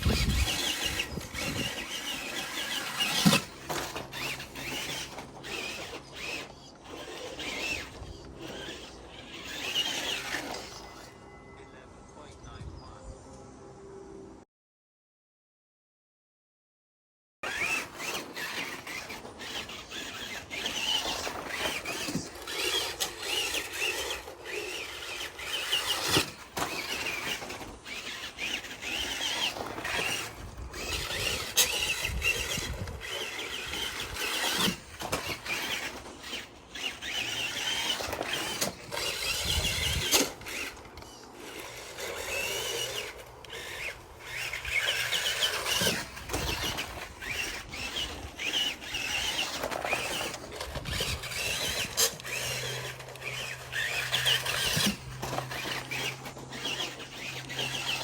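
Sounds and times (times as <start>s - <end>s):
rc car motor whine: 0.0s - 11.9s, 17.4s - 58.0s.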